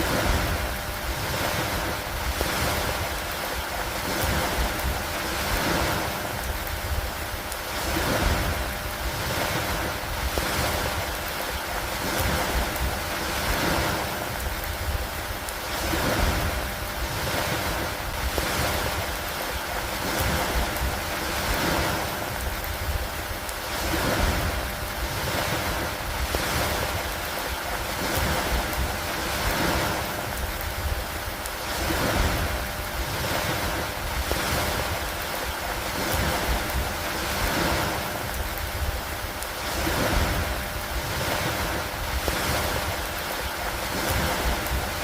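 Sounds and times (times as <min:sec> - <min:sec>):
low wind rumble: 0:00.0 - 0:45.0
rain falling on wood: 0:00.0 - 0:45.0.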